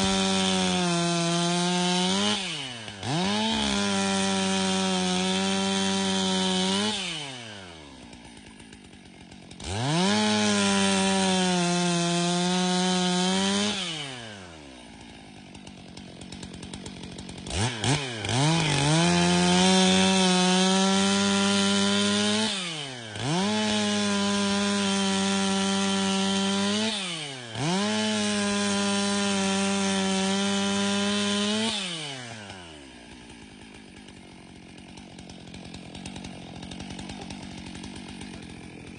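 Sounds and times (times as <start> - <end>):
chainsaw cutting through log: 0.0 - 38.9
chainsaw idling: 0.0 - 38.9.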